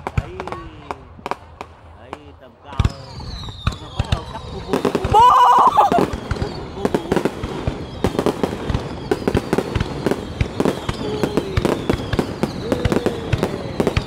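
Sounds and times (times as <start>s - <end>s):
fireworks banging and popping: 0.0s - 14.0s.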